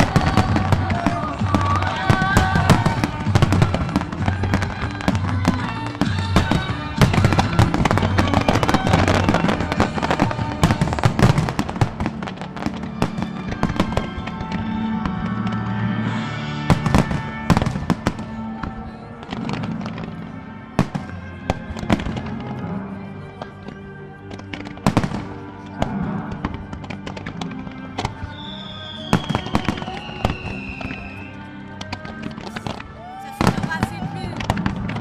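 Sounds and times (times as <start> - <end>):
fireworks bangs and crackles: 0.0 - 35.0
music playing: 0.0 - 35.0.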